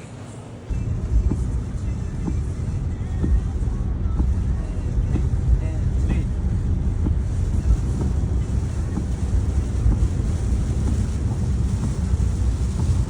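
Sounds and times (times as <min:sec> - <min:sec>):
wind buffeting microphone: 0:00.7 - 0:13.0.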